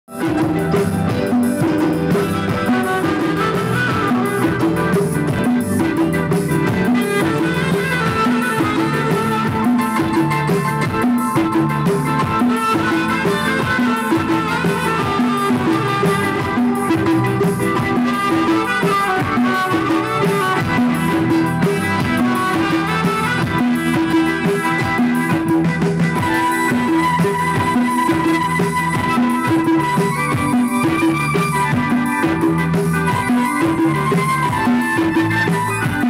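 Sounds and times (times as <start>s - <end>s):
drums and percussion beat: 0.0s - 36.0s
keyboard: 0.0s - 36.0s
saxophone melody: 0.1s - 36.0s.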